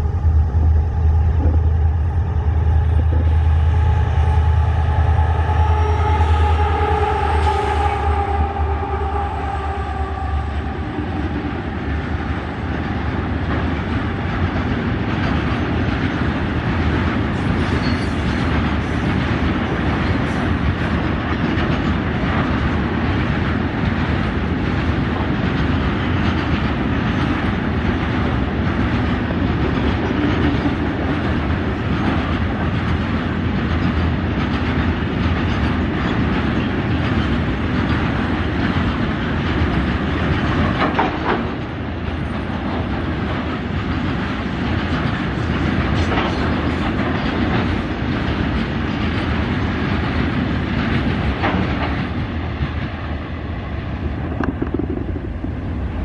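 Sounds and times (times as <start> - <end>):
diesel locomotive engines droning: 0.0 - 56.0
train wheels clacking on rail joints: 2.8 - 3.9, 4.5 - 56.0.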